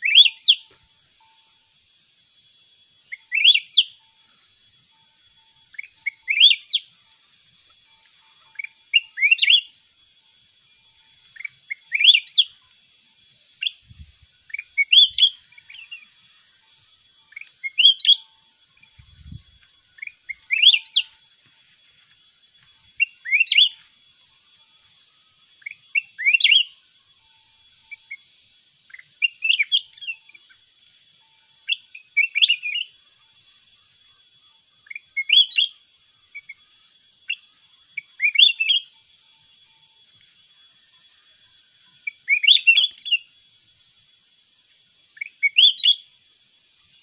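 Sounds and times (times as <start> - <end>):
bulbul singing warbled phrases: 0.0 - 1.4, 3.0 - 4.2, 4.9 - 21.4, 22.8 - 34.2, 34.8 - 39.3, 40.2 - 43.4, 45.0 - 46.1.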